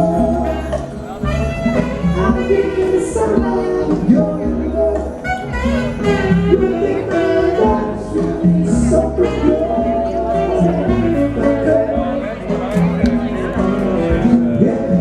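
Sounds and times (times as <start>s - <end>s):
band music: 0.0s - 15.0s.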